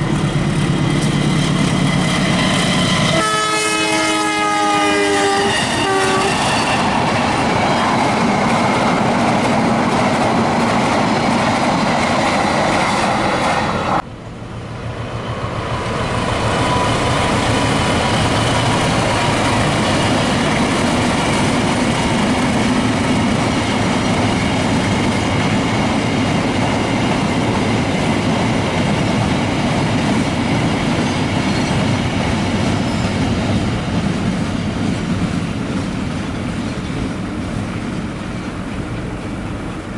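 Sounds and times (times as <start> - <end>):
train passing at speed: 0.0 - 39.9.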